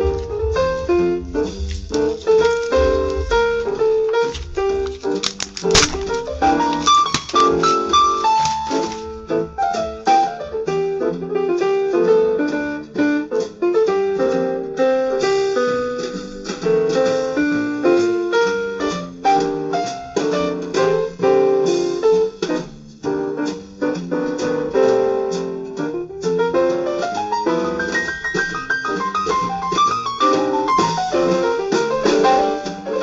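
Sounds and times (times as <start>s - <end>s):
jazz piano: 0.0s - 33.0s.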